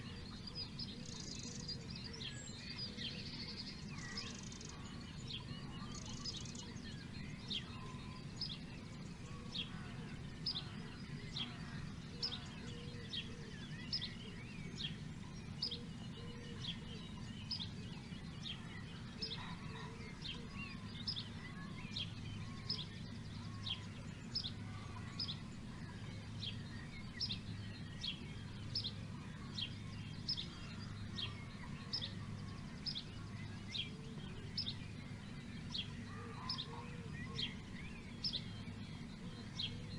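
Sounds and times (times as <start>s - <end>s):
bird calling: 0.0s - 39.9s.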